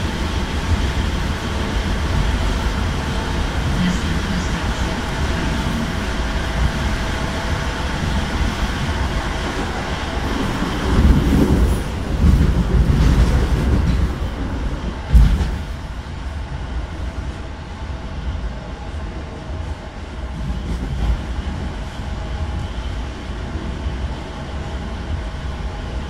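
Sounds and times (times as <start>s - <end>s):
faint train whine: 0.0s - 26.0s
train wheels rumbling on rail: 0.0s - 26.0s.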